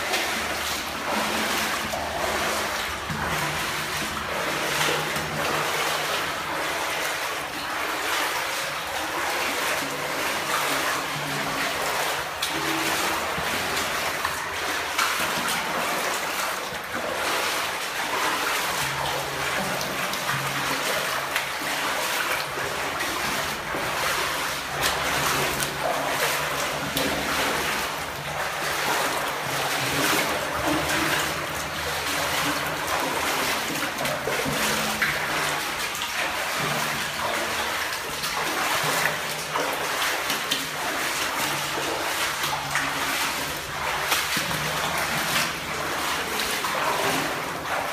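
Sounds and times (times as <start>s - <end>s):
water splashing and trickling: 0.0s - 47.9s.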